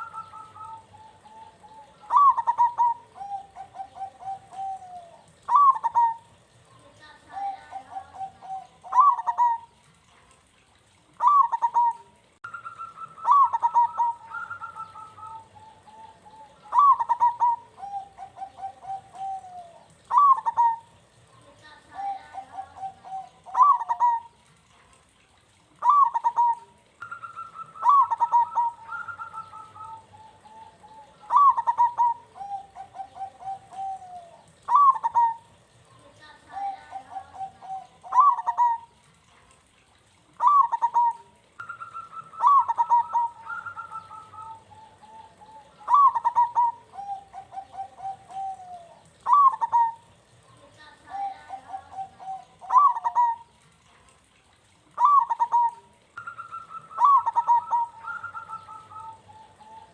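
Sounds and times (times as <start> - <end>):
higher dove cooing: 0.0 - 6.6, 7.3 - 10.3, 11.0 - 35.8, 36.4 - 50.2, 51.0 - 53.7, 54.9 - 59.9
dove cooing: 0.0 - 10.3, 11.0 - 24.9, 25.7 - 39.4, 40.2 - 53.7, 54.9 - 59.9.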